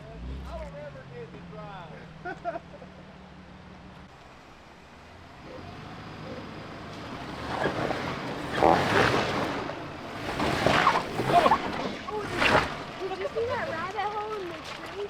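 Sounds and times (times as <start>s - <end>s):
off-road vehicle engine: 0.0s - 15.0s.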